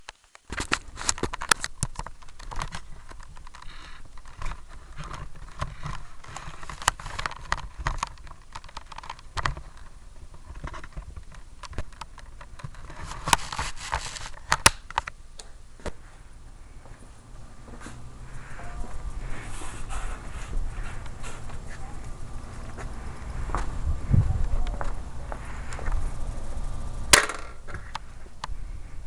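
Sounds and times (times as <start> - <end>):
rustling: 0.0 - 29.0.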